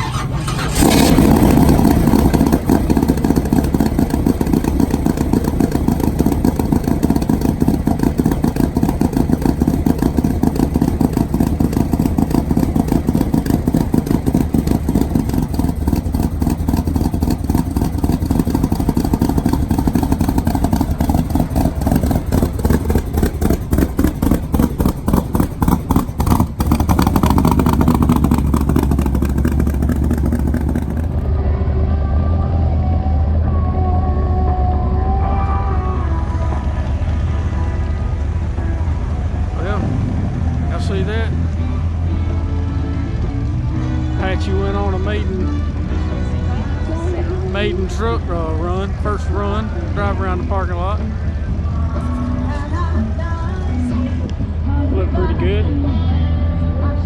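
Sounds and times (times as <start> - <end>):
truck engine running loudly: 0.0 - 57.0.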